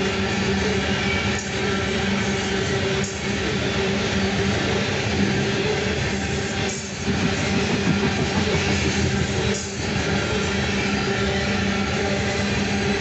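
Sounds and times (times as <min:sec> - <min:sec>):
steel wheels on rail: 0:00.0 - 0:13.0.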